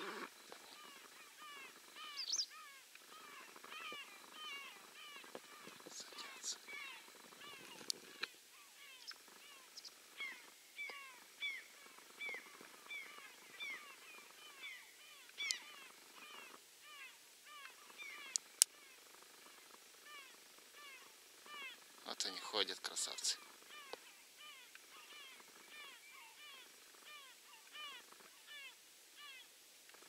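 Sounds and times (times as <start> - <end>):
flock of geese calling: 0.0 - 29.5.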